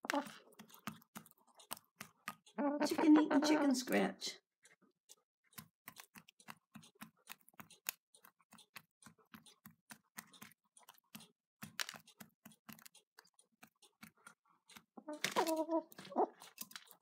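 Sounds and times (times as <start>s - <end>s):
chicken pecking on stone: 0.0s - 3.6s, 5.5s - 17.0s.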